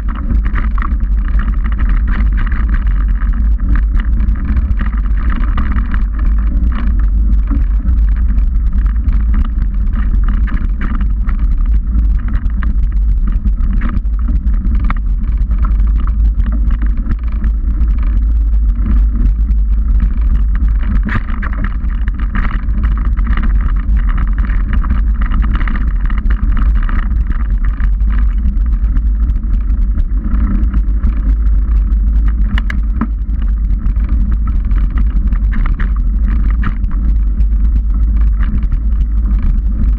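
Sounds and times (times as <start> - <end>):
bike rattles and clicks: 0.0 - 39.9
tyre and wind rumble: 0.0 - 39.9.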